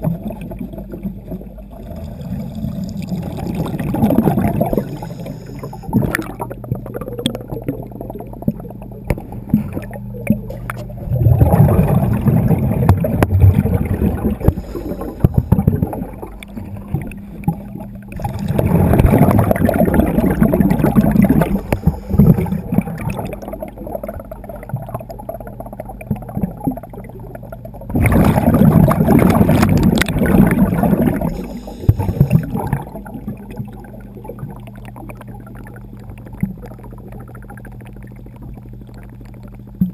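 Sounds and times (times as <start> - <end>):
steady low hum: 0.0 - 39.9
underwater bubbles gurgling: 0.0 - 39.9.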